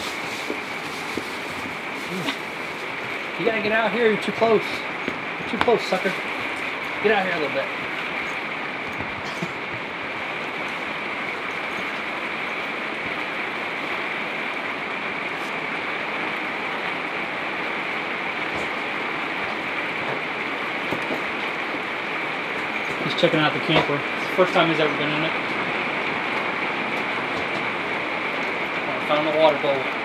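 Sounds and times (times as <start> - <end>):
heavy rain on a roof: 0.0 - 30.0.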